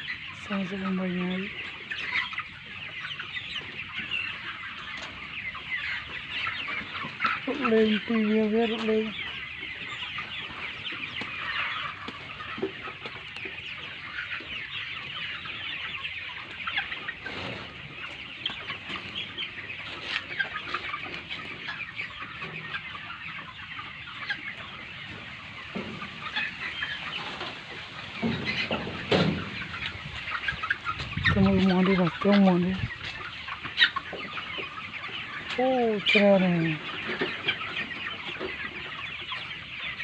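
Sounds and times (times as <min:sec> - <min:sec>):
chickens clucking: 0:00.0 - 0:40.0.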